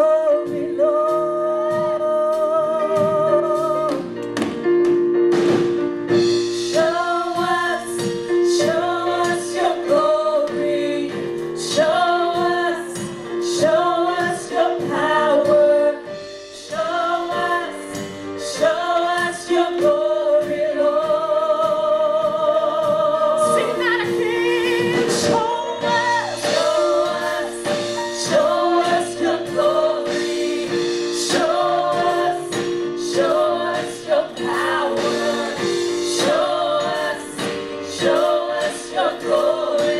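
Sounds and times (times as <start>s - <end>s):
group singing worship song: 0.0s - 4.6s, 5.5s - 39.9s.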